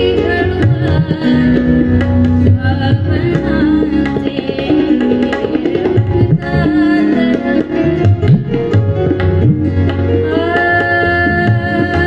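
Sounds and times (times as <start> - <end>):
woman singing: 0.0 - 8.6, 10.0 - 12.0
harmonium notes: 0.0 - 12.0
tabla strokes: 0.0 - 12.0.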